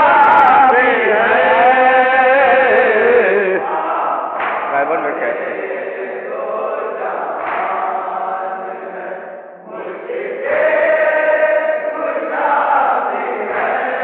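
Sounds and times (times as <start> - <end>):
men chanting unaccompanied: 0.0 - 14.0.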